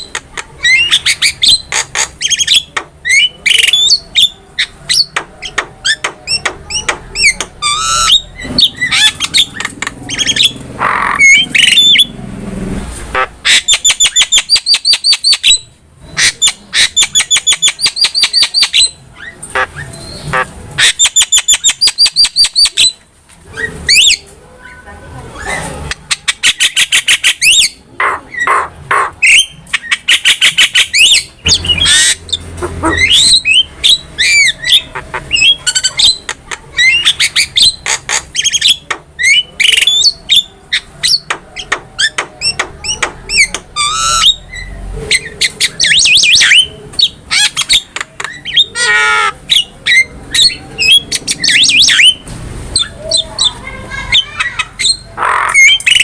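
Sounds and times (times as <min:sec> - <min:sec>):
bird singing varied song: 0:00.0 - 0:12.2, 0:13.5 - 0:24.2, 0:25.4 - 0:56.0.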